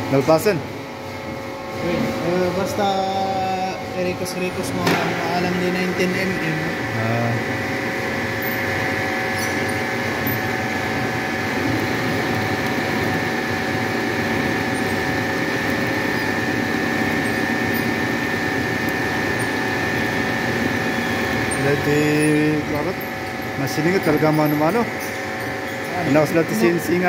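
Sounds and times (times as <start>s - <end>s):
milling machine whine: 0.0s - 27.0s.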